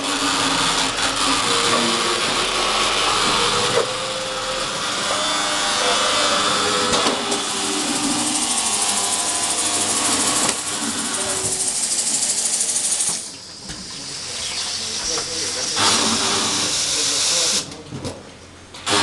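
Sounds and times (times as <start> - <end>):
milking machine hissing: 0.0 - 17.7.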